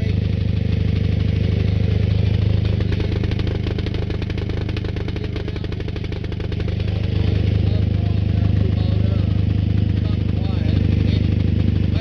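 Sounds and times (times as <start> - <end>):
diesel generator engine running: 0.0 - 12.0.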